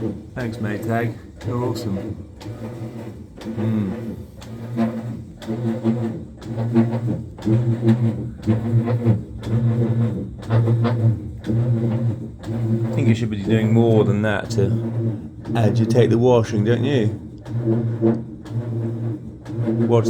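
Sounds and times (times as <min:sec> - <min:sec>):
washing machine droning: 0:00.0 - 0:20.0.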